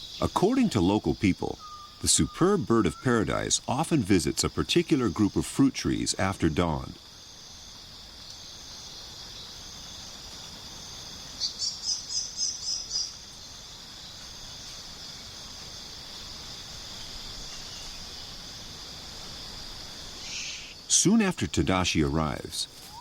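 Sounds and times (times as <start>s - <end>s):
chorus of rainforest insects: 0.0s - 23.0s.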